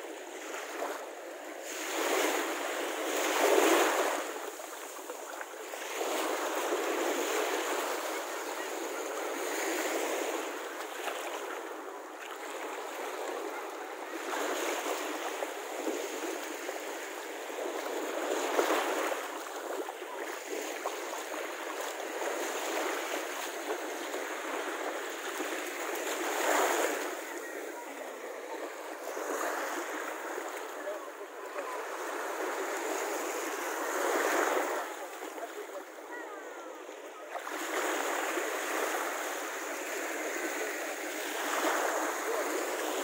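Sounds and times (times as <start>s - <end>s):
small waves washing on sand: 0.0s - 43.0s
voices in background: 0.3s - 43.0s.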